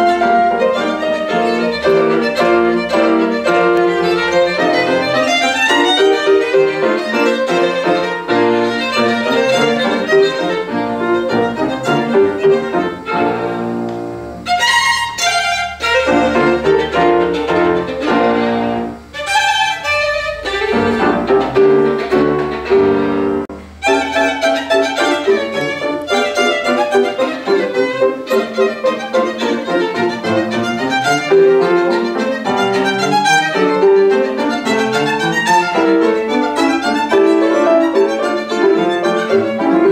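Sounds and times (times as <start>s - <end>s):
violin with piano accompaniment: 0.0s - 39.9s.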